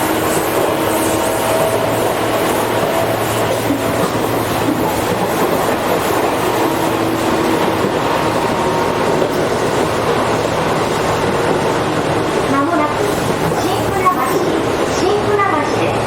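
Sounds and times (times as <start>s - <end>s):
train motor and gear noise: 0.0s - 16.0s
train wheels rumbling on rail: 0.0s - 16.0s.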